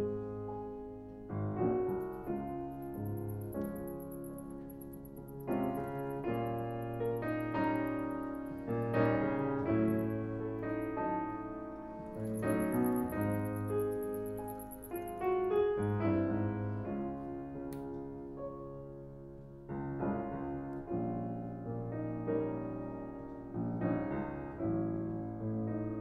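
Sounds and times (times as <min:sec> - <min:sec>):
slow solo piano: 0:00.0 - 0:26.0.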